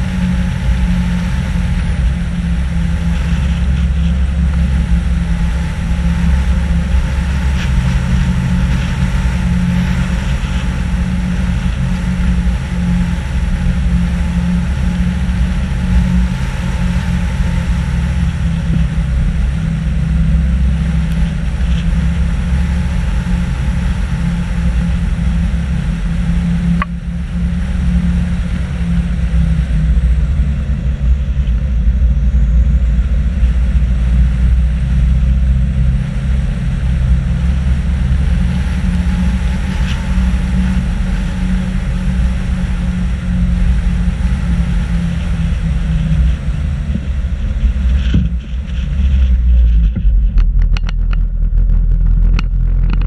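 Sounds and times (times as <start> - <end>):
car engine droning: 0.0 - 53.0
road and wind noise: 0.0 - 53.0.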